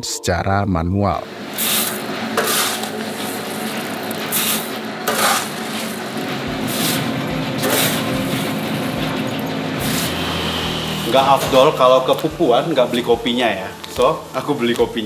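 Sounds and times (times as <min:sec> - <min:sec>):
steady hiss: 0:01.2 - 0:08.7, 0:09.8 - 0:15.0
low hum: 0:01.2 - 0:14.4
metal tray scooping beans: 0:01.3 - 0:14.8.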